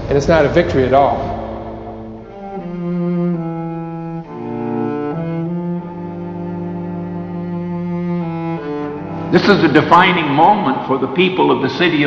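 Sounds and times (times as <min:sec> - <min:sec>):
low bowed string instrument: 0:00.0 - 0:12.0.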